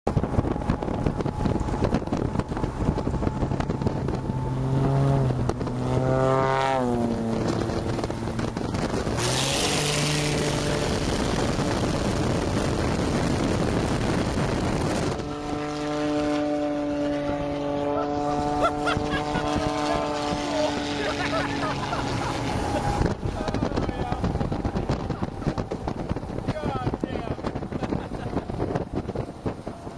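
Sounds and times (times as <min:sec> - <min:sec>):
heavy wind rush: 0:00.1 - 0:29.9
propeller plane engine: 0:00.1 - 0:29.9.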